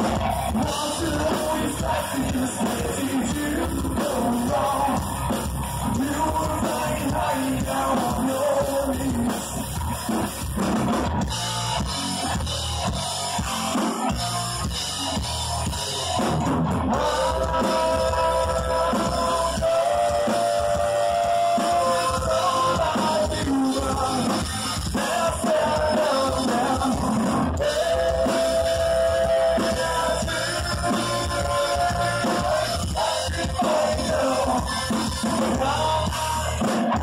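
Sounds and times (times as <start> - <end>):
person singing: 0.0 - 9.5, 16.9 - 37.0
heavy rock band playing: 0.0 - 37.0.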